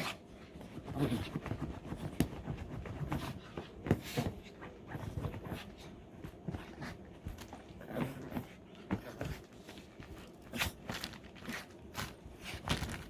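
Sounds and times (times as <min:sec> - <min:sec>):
dog rubbing and scuffling: 0:00.0 - 0:13.0.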